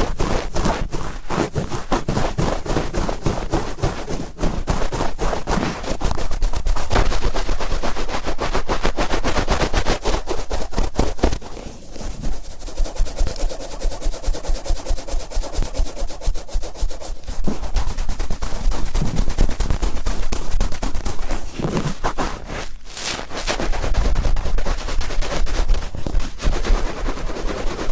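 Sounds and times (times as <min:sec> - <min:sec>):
cotton swab scratching microphone: 0:00.0 - 0:27.9.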